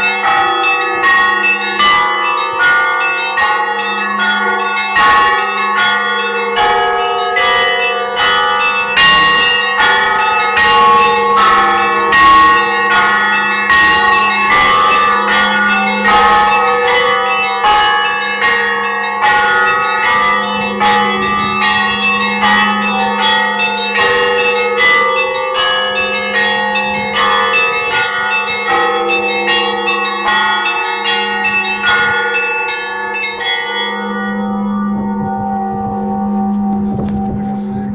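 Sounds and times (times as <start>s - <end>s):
large bell tolling: 0.0s - 37.9s
small church bells ringing rapidly: 0.0s - 37.9s.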